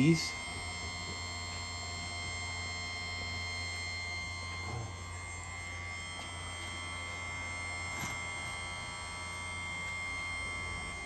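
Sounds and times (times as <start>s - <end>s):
grinder motor humming: 0.0s - 11.0s.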